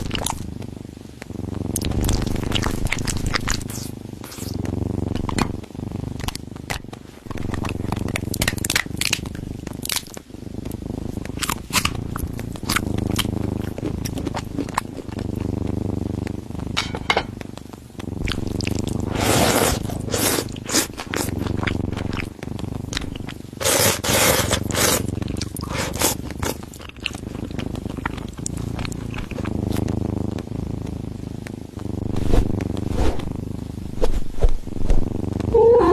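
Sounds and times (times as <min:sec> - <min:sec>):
cat chewing and crunching: 0:00.0 - 0:00.6, 0:01.6 - 0:16.4, 0:17.4 - 0:33.8
cat purring: 0:00.0 - 0:35.9.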